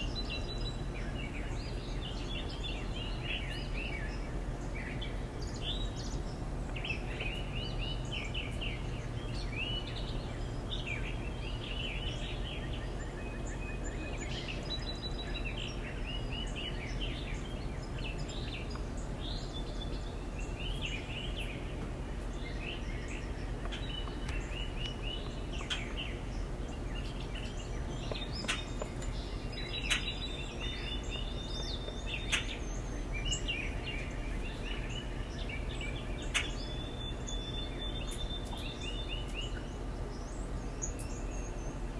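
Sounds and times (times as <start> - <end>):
low background rumble: 0.0 - 41.9
songbirds chirping: 0.0 - 41.9.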